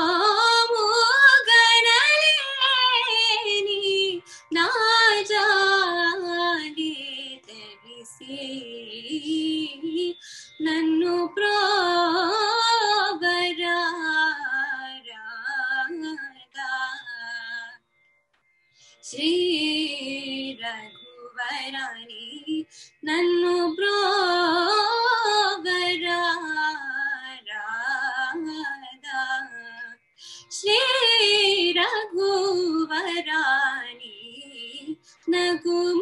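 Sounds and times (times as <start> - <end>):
woman singing wordless phrases: 0.0 - 17.7, 19.1 - 36.0.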